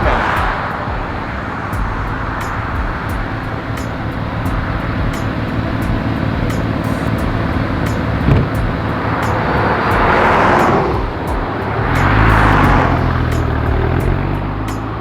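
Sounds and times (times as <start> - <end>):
car engine running: 0.0 - 15.0
rushing noise: 0.0 - 15.0
tyre and road noise: 0.0 - 15.0.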